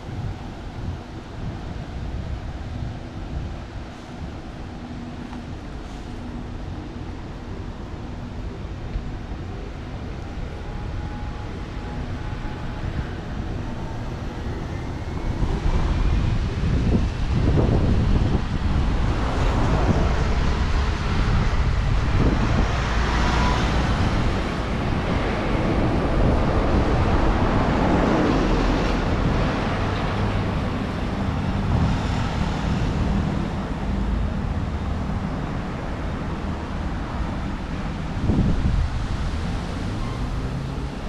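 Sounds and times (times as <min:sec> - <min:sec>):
low traffic rumble: 0:00.0 - 0:41.0
vehicles passing: 0:00.0 - 0:41.0.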